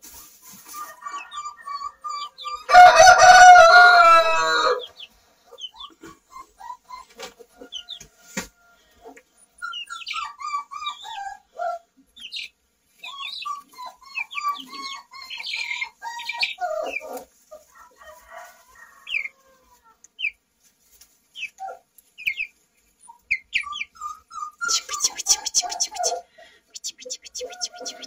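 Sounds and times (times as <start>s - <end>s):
chicks peeping: 0.4s - 2.7s, 3.4s - 17.7s, 20.1s - 28.0s.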